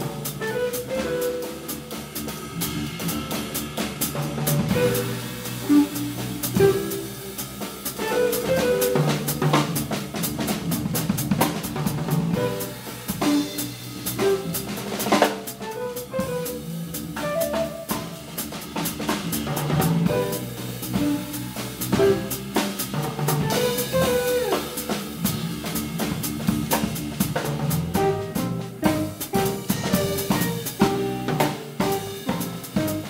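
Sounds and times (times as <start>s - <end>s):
drum kit hits: 0.0s - 33.0s
jazz fusion band playing: 0.0s - 33.0s.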